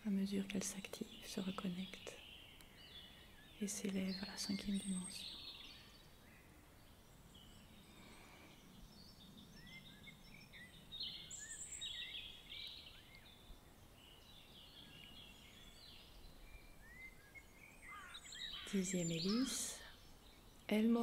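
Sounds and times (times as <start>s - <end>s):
birds chirping and whistling: 1.6s - 20.6s.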